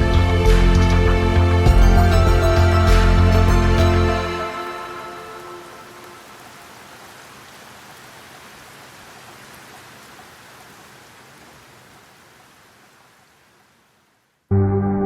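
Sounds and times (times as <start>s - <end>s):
rain hissing: 0.0s - 14.5s.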